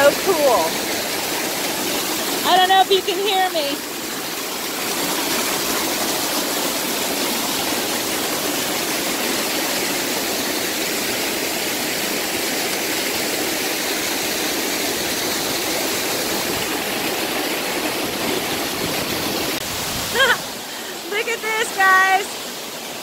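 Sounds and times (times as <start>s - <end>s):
waterfall crashing onto boulders: 0.0s - 23.0s.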